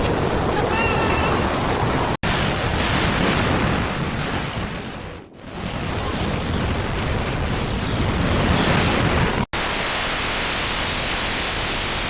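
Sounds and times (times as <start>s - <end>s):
wind and rain on microphone: 0.0s - 12.0s.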